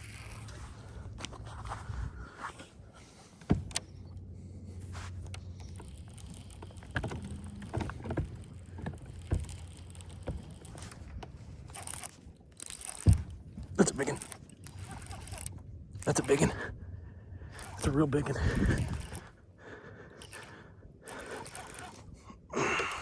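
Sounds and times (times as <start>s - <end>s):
gear knocks and clicks: 0.0s - 1.8s, 3.2s - 16.6s, 17.6s - 19.3s, 20.2s - 22.2s
low motor hum: 0.0s - 23.0s.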